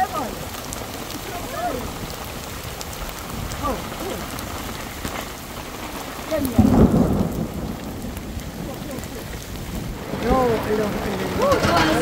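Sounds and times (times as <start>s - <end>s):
heavy rain on plastic sheeting: 0.0s - 12.0s.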